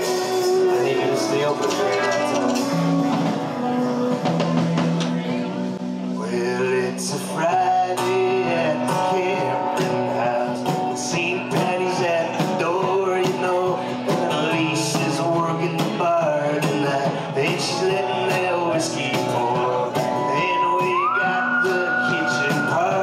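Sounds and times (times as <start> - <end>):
drum and cymbal hits: 0.0 - 5.8, 8.8 - 23.0
live folk-rock band playing: 0.0 - 23.0.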